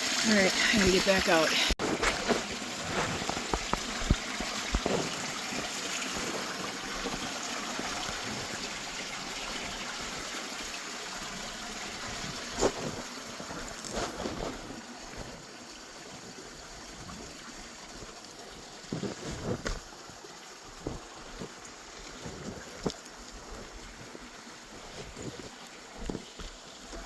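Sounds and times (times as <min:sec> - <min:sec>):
waterfall and stream rushing: 0:00.0 - 0:27.0.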